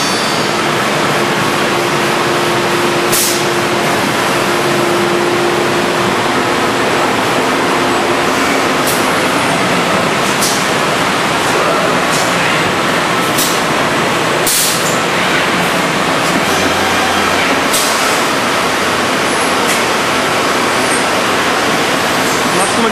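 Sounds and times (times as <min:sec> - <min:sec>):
machine hum: 0:00.0 - 0:22.9
woodworking machine running: 0:00.0 - 0:22.9.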